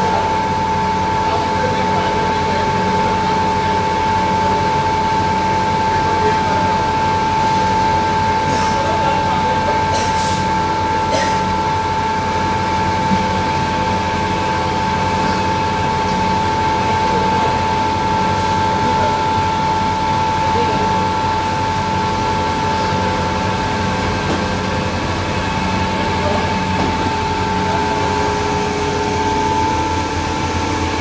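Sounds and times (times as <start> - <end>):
fryer machine hum and whine: 0.0 - 31.0.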